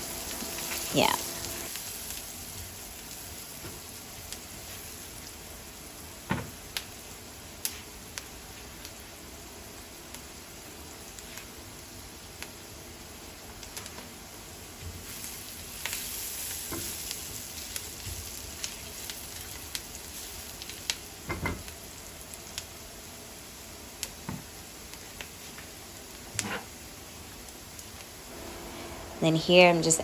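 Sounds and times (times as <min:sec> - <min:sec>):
onions sizzling in a frying pan: 0:00.0 - 0:30.0.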